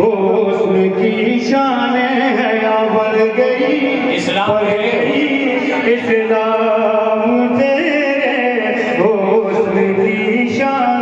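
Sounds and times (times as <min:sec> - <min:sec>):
man singing devotional verse: 0:00.0 - 0:11.0.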